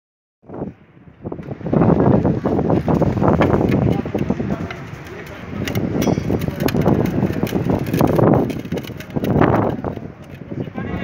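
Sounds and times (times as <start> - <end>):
wind buffeting microphone: 0.4 - 11.0.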